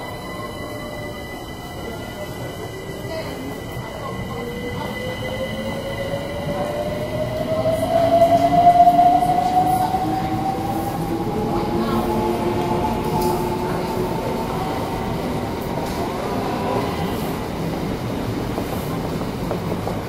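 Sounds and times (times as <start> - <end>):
train rumbling: 0.0 - 20.0
train whine: 0.0 - 20.0.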